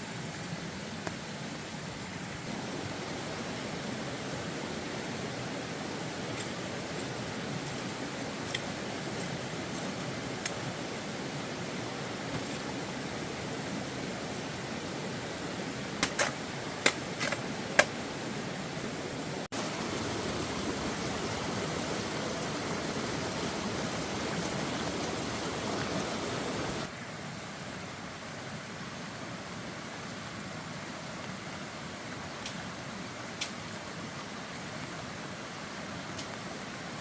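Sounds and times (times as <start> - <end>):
rushing water: 0.0 - 37.0.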